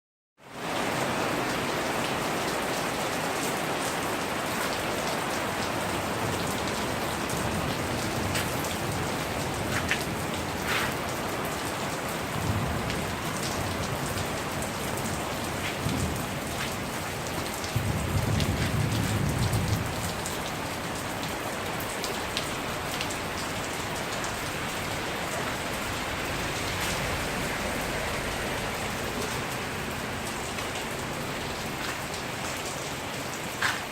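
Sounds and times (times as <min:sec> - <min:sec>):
steady rain falling: 0:00.4 - 0:33.9.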